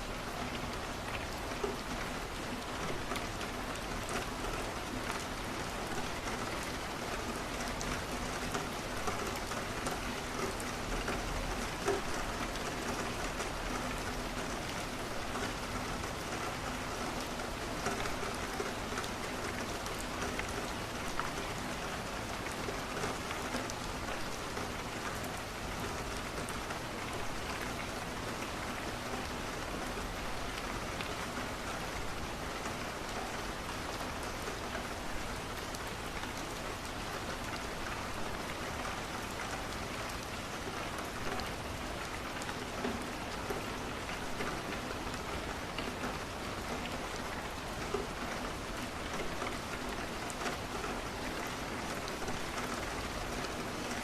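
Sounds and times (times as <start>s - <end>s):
rain falling on a window: 0.0s - 54.0s.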